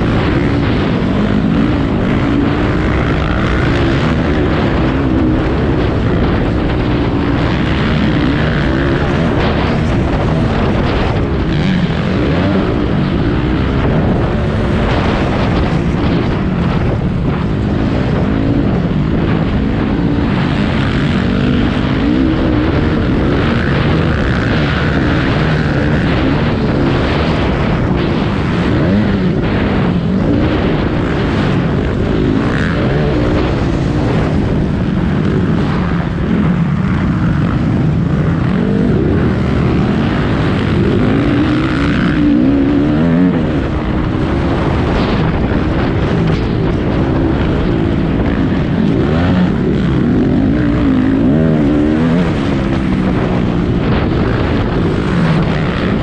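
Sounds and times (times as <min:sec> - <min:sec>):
racing engines revving: 0:00.0 - 0:56.0.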